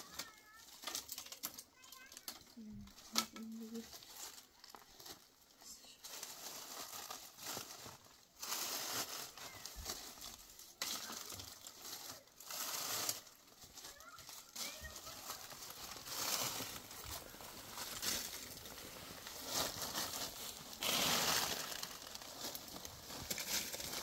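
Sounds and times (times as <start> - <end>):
dry leaves crunching and rustling: 3.2 - 24.0.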